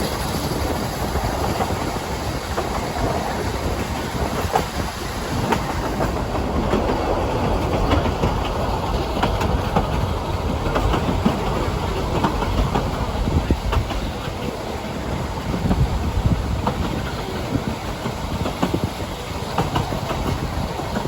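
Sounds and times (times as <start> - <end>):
train rumbling on track: 0.0 - 21.0
wheels clicking on rails: 0.0 - 21.0.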